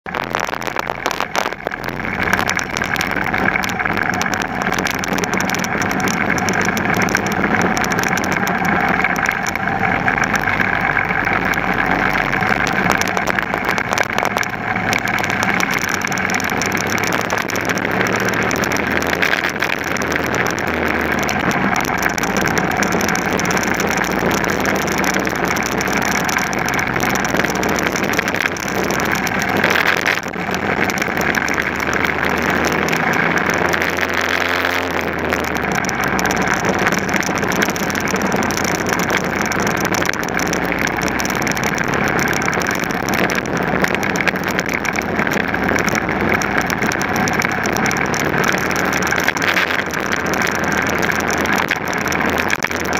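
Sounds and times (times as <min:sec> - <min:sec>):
kart engines racing: 0:00.4 - 0:52.9.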